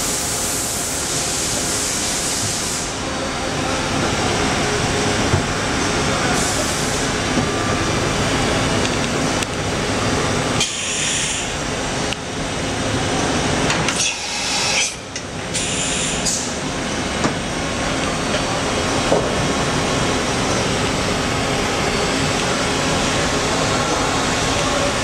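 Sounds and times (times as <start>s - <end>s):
machining center running: 2.9s - 25.0s.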